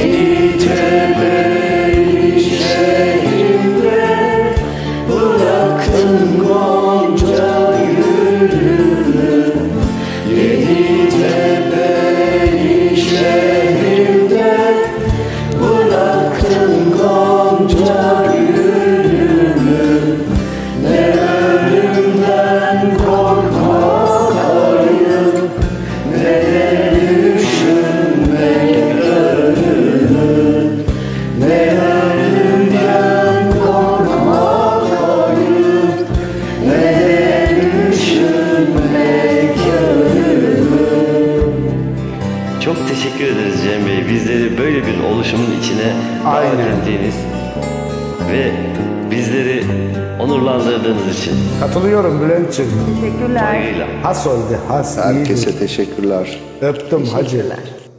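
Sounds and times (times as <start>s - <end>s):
people singing together: 0.0s - 47.2s, 48.1s - 56.6s
karaoke backing track: 0.0s - 57.9s.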